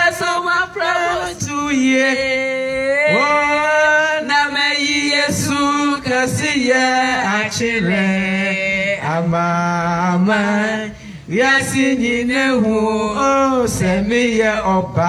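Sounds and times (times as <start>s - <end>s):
voices singing slow song: 0.0s - 15.0s.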